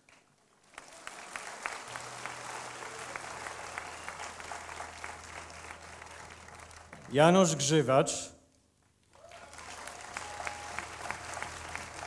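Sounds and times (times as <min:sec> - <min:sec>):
audience applauding: 0:00.0 - 0:07.8, 0:09.0 - 0:12.0.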